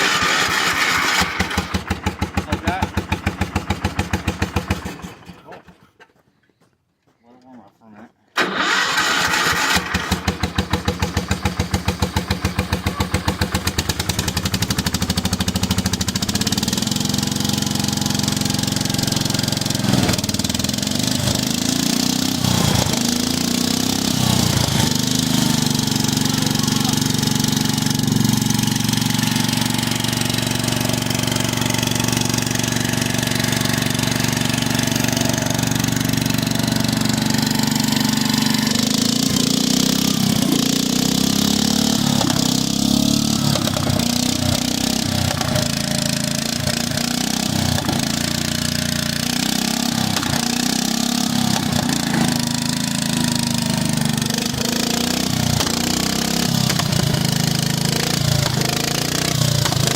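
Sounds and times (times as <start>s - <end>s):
engine idling unevenly: 10.1s - 59.9s.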